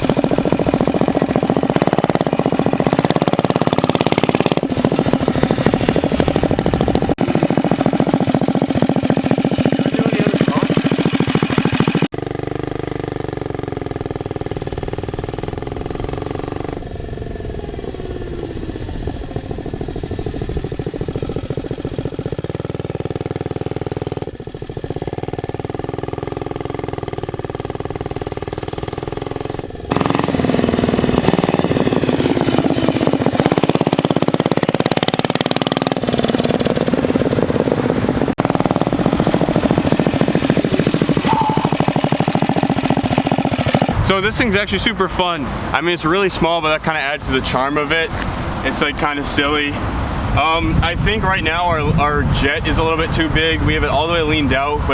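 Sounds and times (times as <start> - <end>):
small engine running: 0.0 - 44.4.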